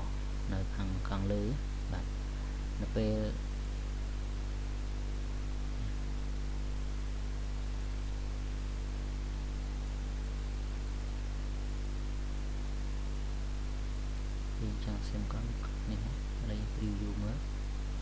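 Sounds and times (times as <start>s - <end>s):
constant hiss: 0.0s - 18.0s
electrical mains hum: 0.0s - 18.0s.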